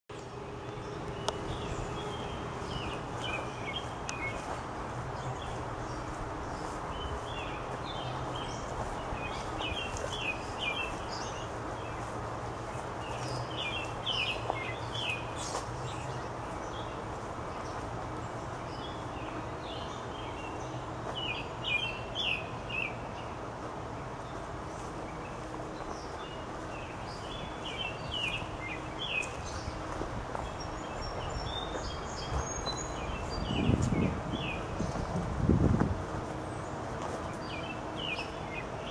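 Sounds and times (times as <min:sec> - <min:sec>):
outdoor background rumble: 0:00.1 - 0:38.9
songbird chirping: 0:00.1 - 0:38.9.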